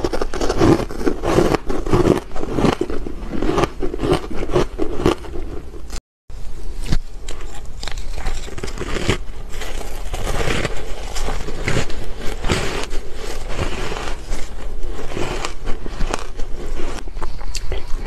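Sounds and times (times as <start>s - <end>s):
chewing crunchy ice: 0.0s - 6.0s, 6.8s - 17.9s.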